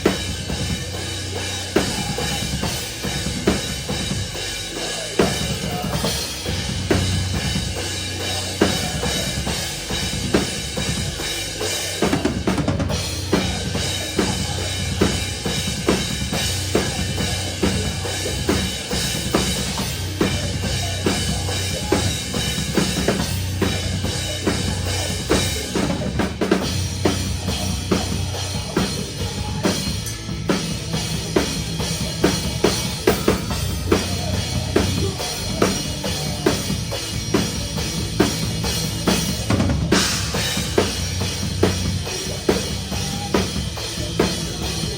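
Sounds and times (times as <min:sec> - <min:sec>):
distorted guitars and bass: 0:00.0 - 0:44.9
drums in driving beat: 0:00.0 - 0:44.9.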